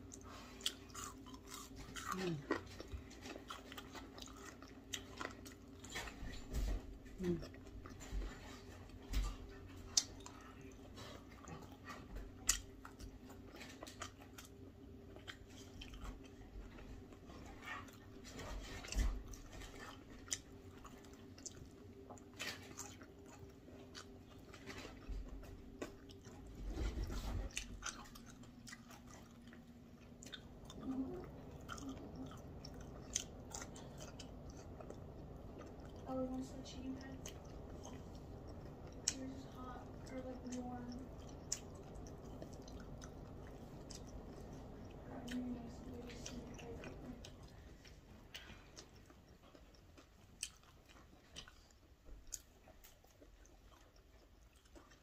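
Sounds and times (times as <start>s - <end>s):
faint steady hum: 0.0s - 55.0s
person chewing food: 0.0s - 55.0s.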